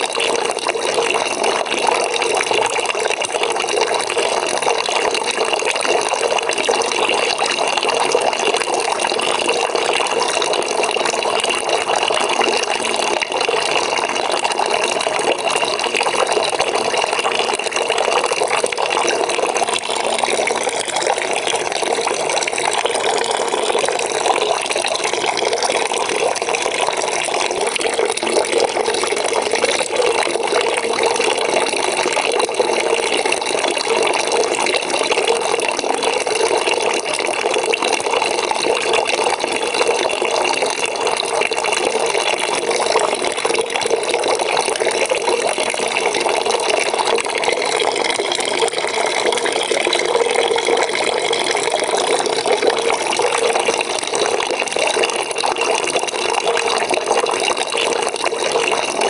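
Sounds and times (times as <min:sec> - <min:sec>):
water pouring into a bucket: 0:00.0 - 0:59.0.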